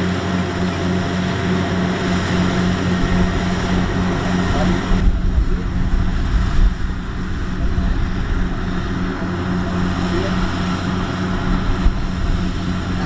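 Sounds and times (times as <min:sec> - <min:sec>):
diesel engine running steadily: 0:00.0 - 0:13.0
machinery noise: 0:00.0 - 0:13.0.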